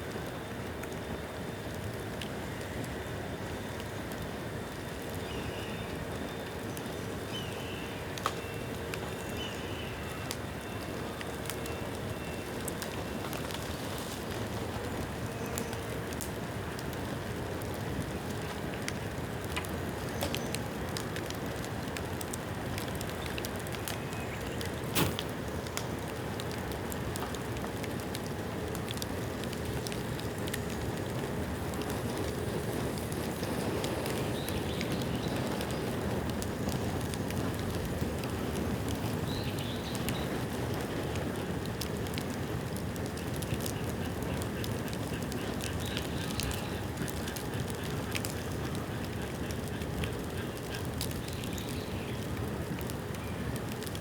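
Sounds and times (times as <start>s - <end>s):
bonfire crackling and hissing: 0.0s - 54.0s
sharp pops from fire: 6.5s - 54.0s.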